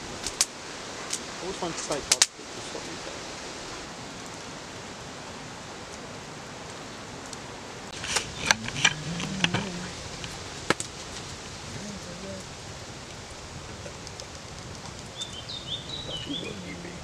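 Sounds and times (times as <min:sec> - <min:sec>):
campfire hiss: 0:00.0 - 0:17.0
crackles and pops of burning logs: 0:00.0 - 0:17.0.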